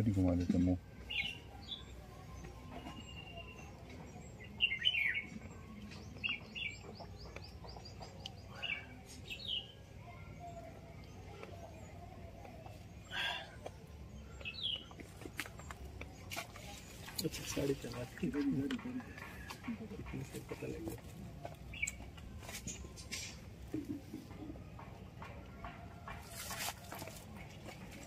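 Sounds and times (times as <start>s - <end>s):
birds chirping: 0.0s - 26.1s.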